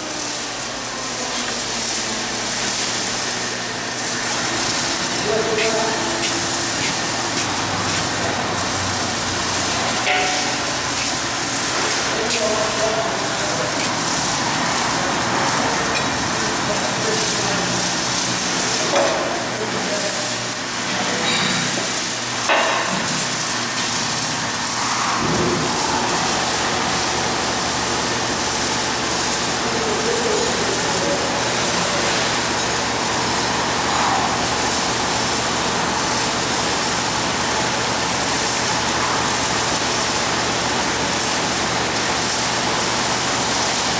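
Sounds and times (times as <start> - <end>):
workshop noise hiss: 0.0 - 43.9.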